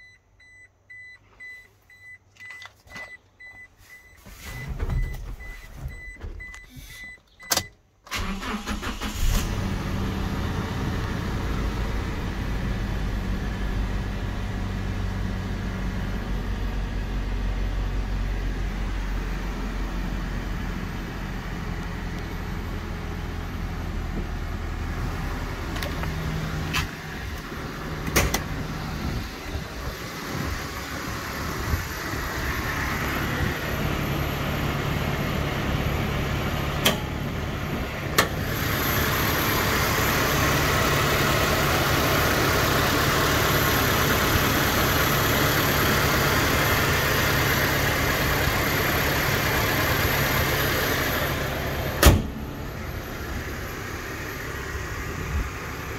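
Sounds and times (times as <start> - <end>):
car engine idling: 8.1 - 55.9.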